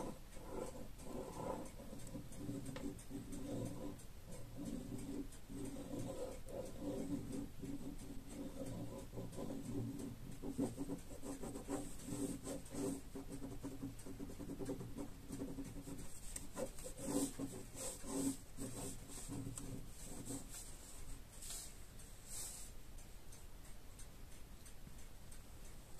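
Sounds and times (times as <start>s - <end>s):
pen nib scratching on paper: 0.0s - 21.7s.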